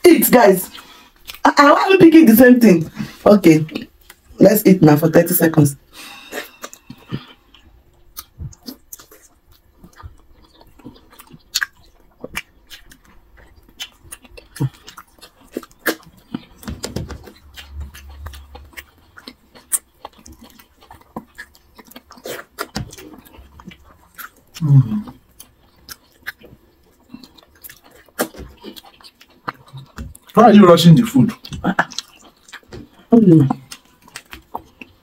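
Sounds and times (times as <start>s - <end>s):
people chewing food: 0.0s - 4.4s, 5.8s - 35.0s.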